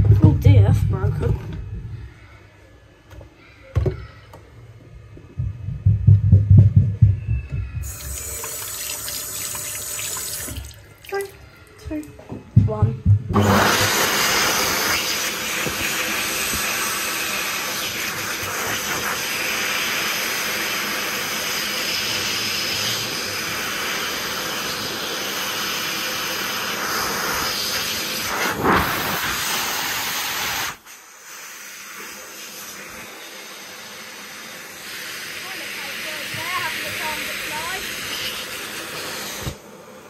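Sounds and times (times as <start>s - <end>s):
hand dryer blowing air: 5.4s - 10.9s, 12.6s - 40.0s.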